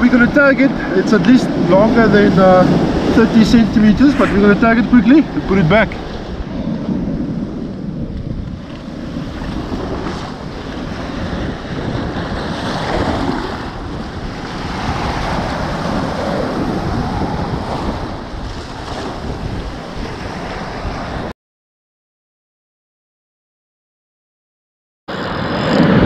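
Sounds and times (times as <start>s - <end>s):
ocean surf washing on beach: 0.0s - 21.3s, 25.1s - 26.0s
wind buffeting microphone: 0.0s - 21.3s, 25.1s - 26.0s.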